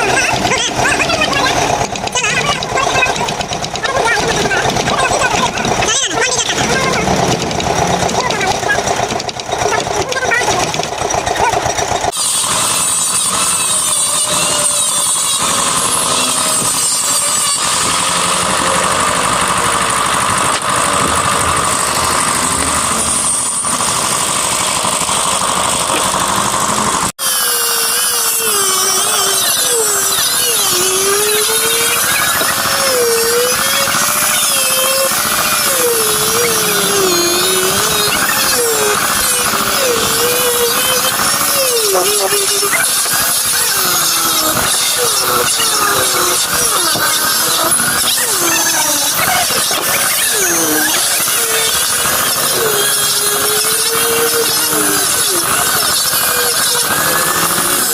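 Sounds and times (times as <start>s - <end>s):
power tool cutting wood: 0.0s - 57.9s.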